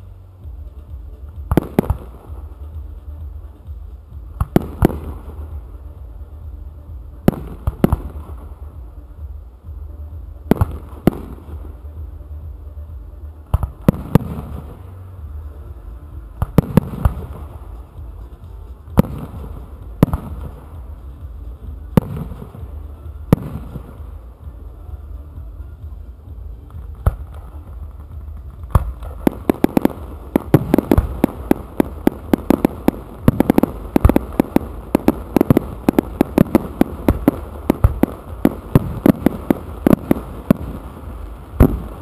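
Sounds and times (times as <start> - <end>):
steady low rumble: 0.0 - 42.0
firework bangs: 0.5 - 9.4, 10.3 - 42.0.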